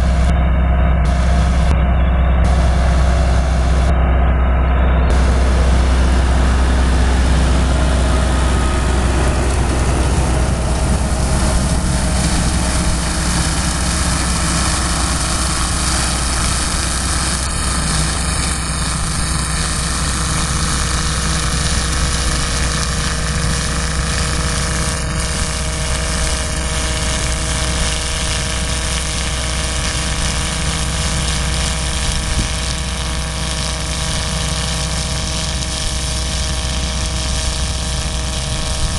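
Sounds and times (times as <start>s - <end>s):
tractor diesel engine running: 0.0s - 38.9s
shredder milling: 5.1s - 38.9s.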